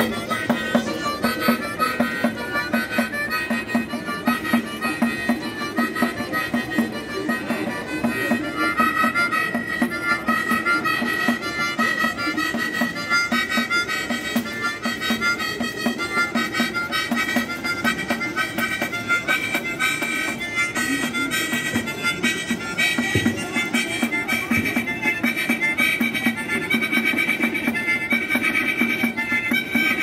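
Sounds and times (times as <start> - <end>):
harmonica melody: 0.0 - 30.0
jingled frame drum: 0.0 - 30.0.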